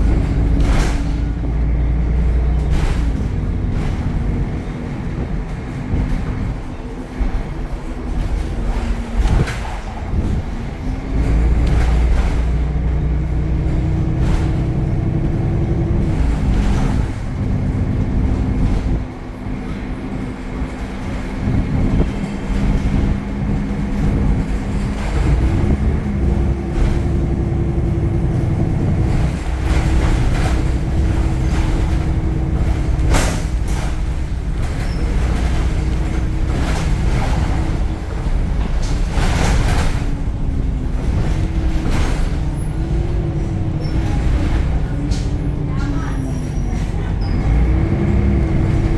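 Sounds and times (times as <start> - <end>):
bus diesel engine rumbling: 0.0 - 48.9
knocks and rattles: 0.0 - 48.9.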